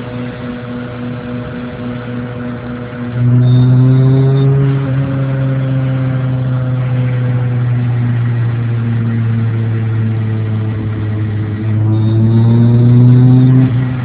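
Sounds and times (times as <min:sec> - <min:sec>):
car engine running at low speed: 0:00.0 - 0:14.0.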